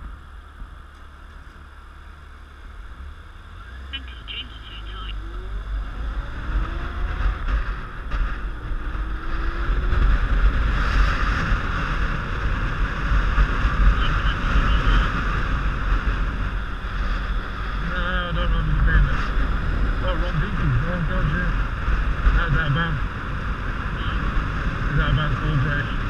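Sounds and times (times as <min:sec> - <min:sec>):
motorcycle accelerating through gears: 0:05.1 - 0:26.0.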